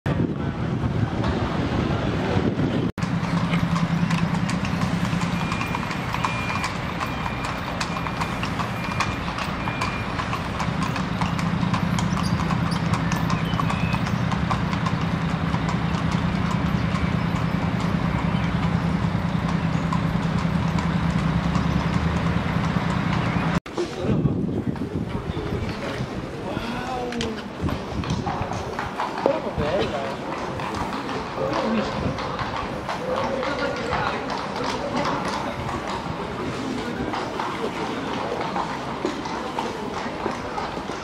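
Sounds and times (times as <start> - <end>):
low hum of city traffic: 0.1 - 41.0
horse hooves clip-clopping on asphalt: 2.4 - 26.4, 27.0 - 41.0.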